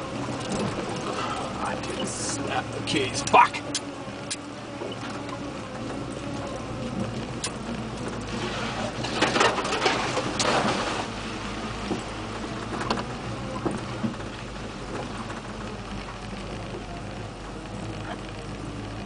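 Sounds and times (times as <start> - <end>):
pickup engine running at low revs: 0.0 - 19.0.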